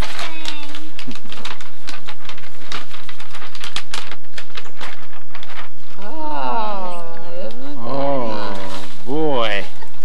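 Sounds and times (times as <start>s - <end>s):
wrapping paper crinkling and tearing: 0.0s - 9.9s.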